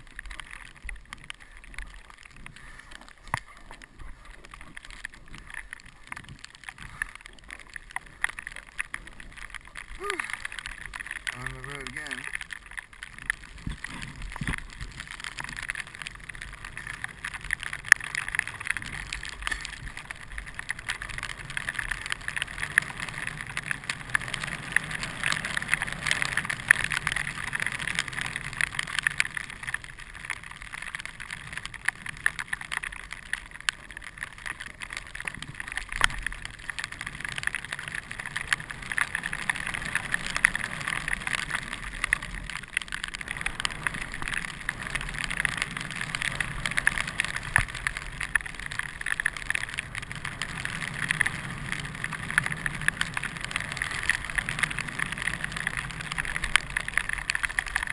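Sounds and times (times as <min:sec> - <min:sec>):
skis carving on snow: 0:00.0 - 0:12.4, 0:13.1 - 0:57.9.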